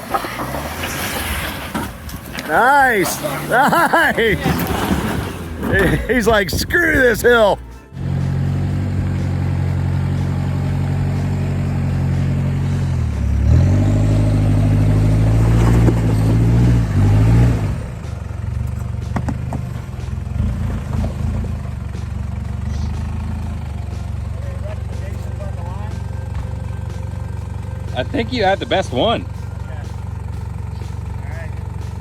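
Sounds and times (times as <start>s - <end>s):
truck engine revving under load: 0.0s - 32.0s.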